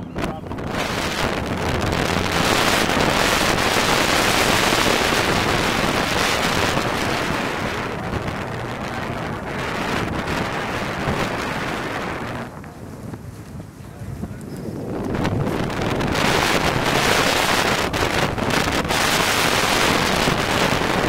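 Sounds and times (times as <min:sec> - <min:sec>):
water rushing along boat: 0:00.0 - 0:21.0
wind buffeting microphone: 0:00.0 - 0:21.0.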